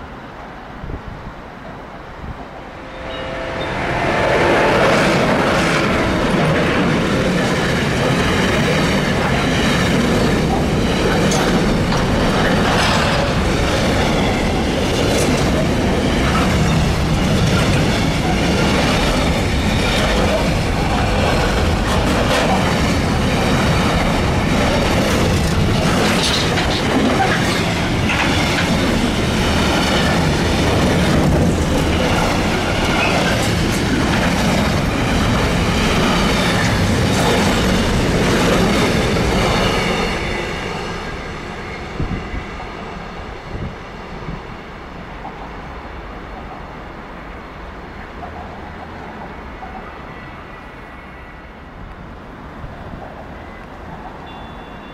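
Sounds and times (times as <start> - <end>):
train rolling past: 0.0 - 54.9.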